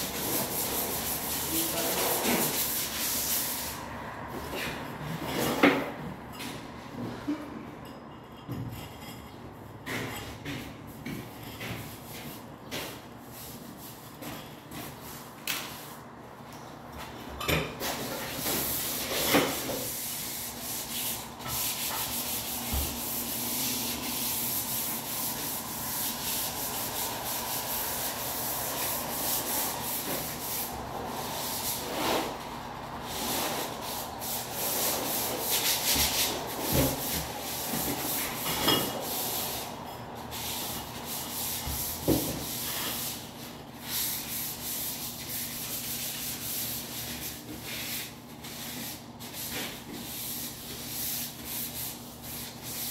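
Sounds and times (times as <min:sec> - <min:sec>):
sanding a wall: 0:00.0 - 0:03.9, 0:11.8 - 0:16.0, 0:17.8 - 0:52.9.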